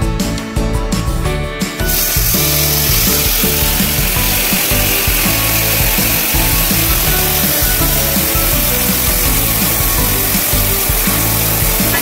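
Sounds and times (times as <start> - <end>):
background music: 0.0 - 12.0
food sizzling on hot plate: 1.9 - 12.0.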